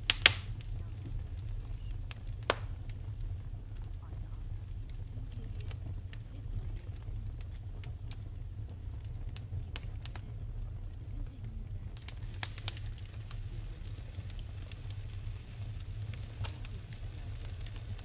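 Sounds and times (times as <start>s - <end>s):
low rumble: 0.0s - 18.0s
wood fire crackling and popping: 0.0s - 18.0s.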